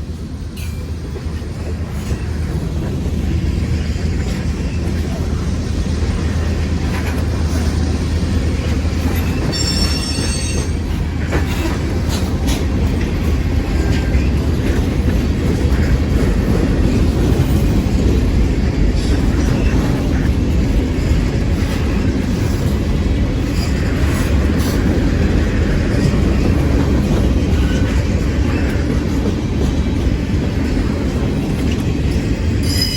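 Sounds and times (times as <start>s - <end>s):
freight train rumbling past: 0.0s - 32.9s
wheel squealing on rail: 0.6s - 32.9s.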